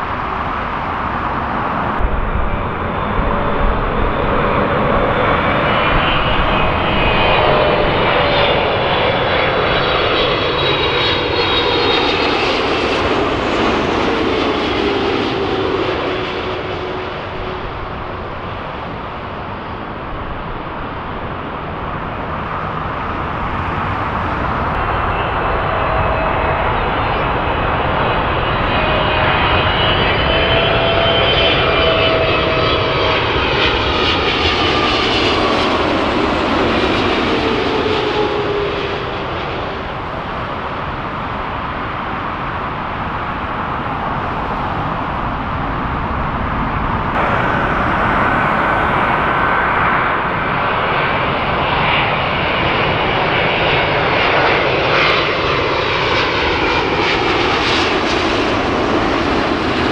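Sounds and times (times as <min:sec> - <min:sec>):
jet airliner engines roaring: 0:00.0 - 0:59.9.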